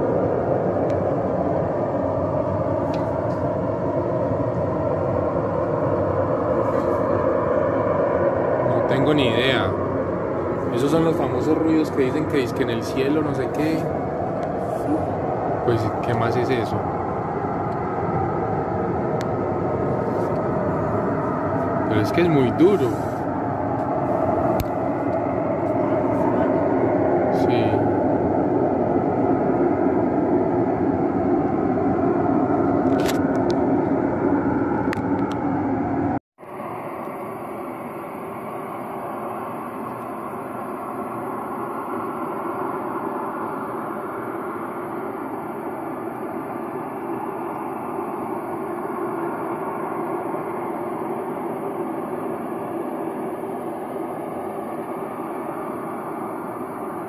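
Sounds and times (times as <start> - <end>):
loud droning from the sky: 0.0 - 57.0.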